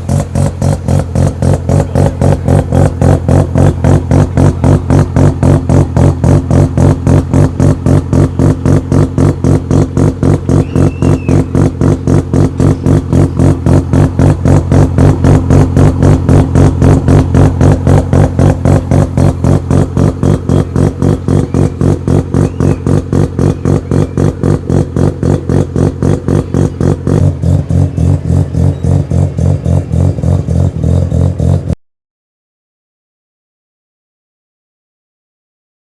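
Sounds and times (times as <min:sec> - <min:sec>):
rotary engine idling: 0:00.0 - 0:31.8.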